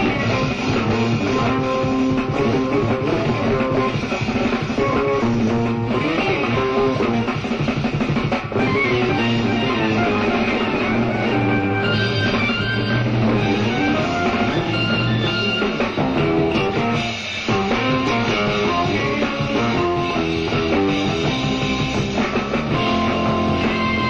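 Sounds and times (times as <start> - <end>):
jazz-rock band playing: 0.0 - 24.0.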